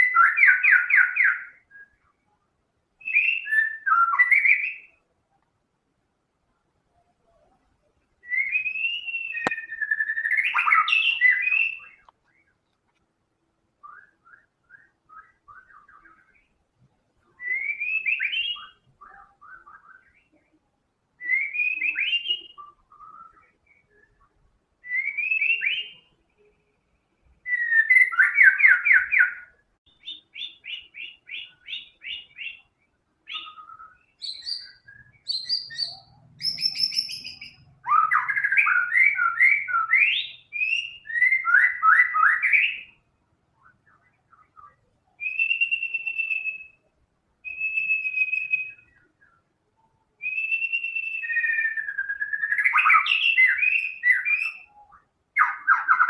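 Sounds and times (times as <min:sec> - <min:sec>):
bird singing whistled phrases: 0:00.0 - 0:02.3, 0:03.0 - 0:05.0, 0:08.2 - 0:12.5, 0:13.8 - 0:16.5, 0:17.3 - 0:20.4, 0:21.2 - 0:26.5, 0:27.4 - 0:43.0, 0:43.6 - 0:56.0.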